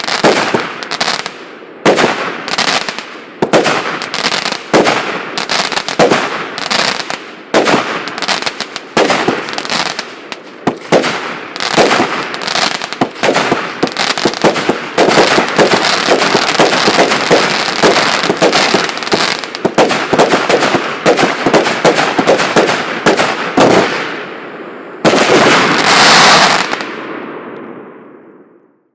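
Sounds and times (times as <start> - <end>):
firework launch bangs and bursts: 0.0 - 24.2, 25.0 - 27.0.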